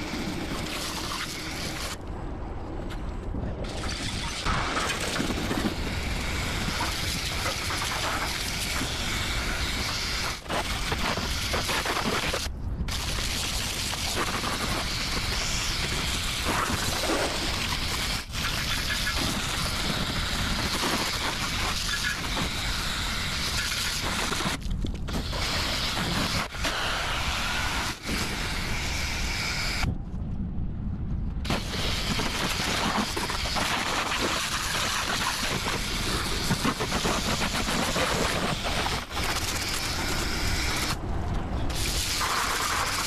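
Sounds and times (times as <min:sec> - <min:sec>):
water jet spraying on metal: 0:04.9 - 0:29.8, 0:31.5 - 0:41.0, 0:41.7 - 0:43.0.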